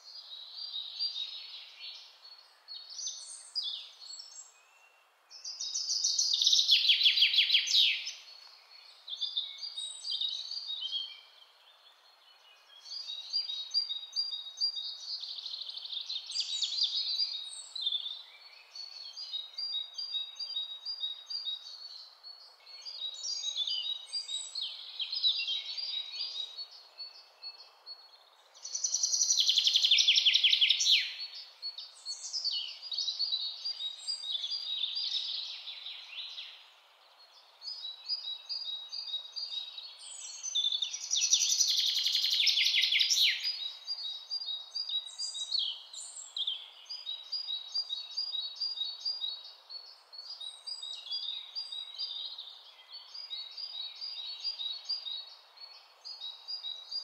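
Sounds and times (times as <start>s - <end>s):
birds singing and chirping: 0.0s - 57.0s
faint background hiss: 0.0s - 57.0s.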